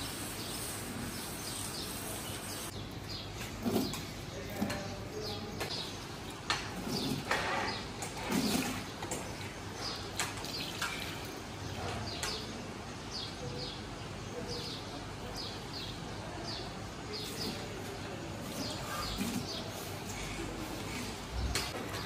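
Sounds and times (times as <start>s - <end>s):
small birds chirping: 0.0s - 22.0s
street background noise: 0.0s - 22.0s.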